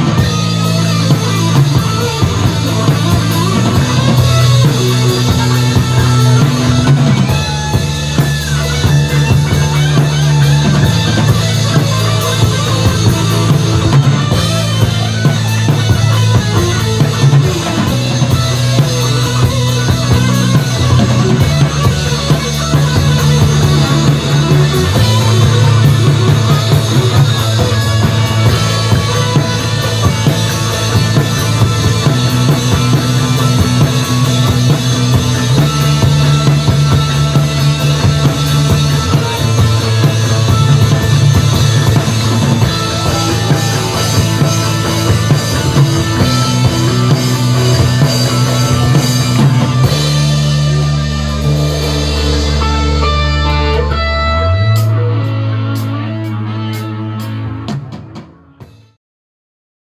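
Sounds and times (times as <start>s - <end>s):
electric bass low notes: 0.0s - 58.2s
drum kit: 0.0s - 59.0s
electric guitar: 0.0s - 59.0s.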